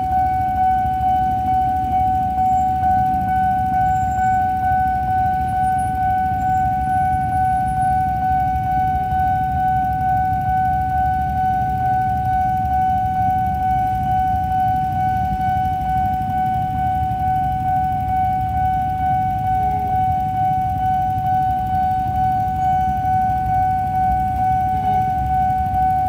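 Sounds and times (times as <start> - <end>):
level-crossing warning alarm: 0.0 - 26.0.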